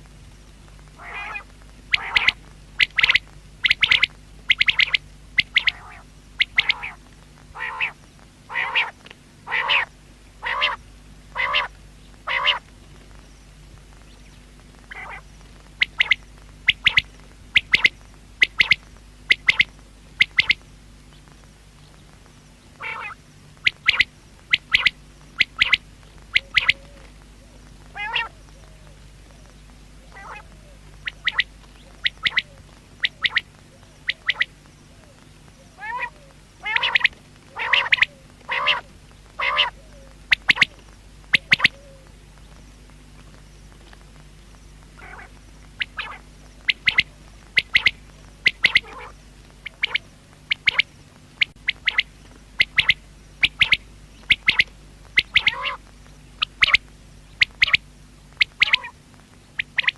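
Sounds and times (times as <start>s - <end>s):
steady low hum: 0.0s - 59.9s
quail calling: 1.0s - 12.7s, 14.9s - 20.6s, 22.8s - 42.1s, 45.0s - 59.9s.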